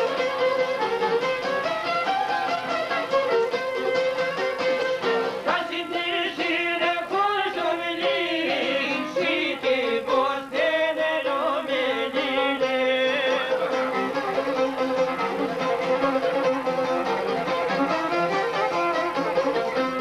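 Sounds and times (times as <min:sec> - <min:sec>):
held accompaniment: 0:00.0 - 0:20.0
violin melody: 0:00.0 - 0:20.0.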